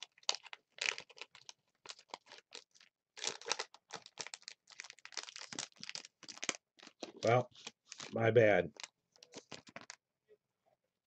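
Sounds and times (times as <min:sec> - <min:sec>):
wrapper tearing and crinkling: 0:00.0 - 0:10.0.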